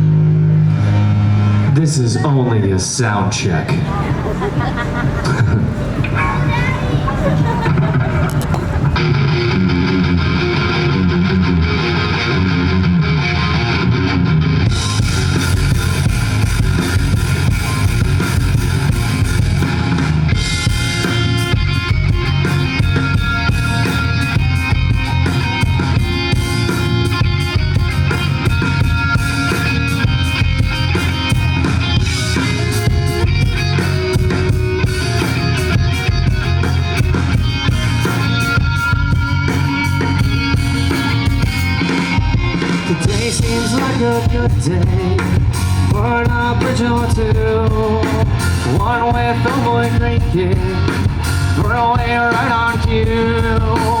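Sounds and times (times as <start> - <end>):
rock band playing: 3.6 - 54.0.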